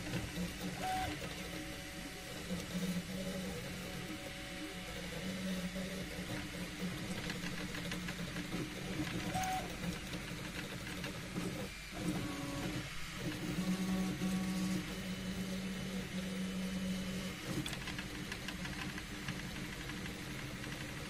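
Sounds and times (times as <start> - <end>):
printer stepper motors whining: 0.0 - 21.0.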